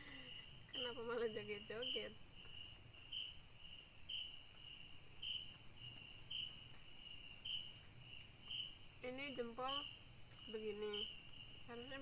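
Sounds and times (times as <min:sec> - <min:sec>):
high insect drone: 0:00.0 - 0:12.0
insects trilling: 0:00.0 - 0:12.0.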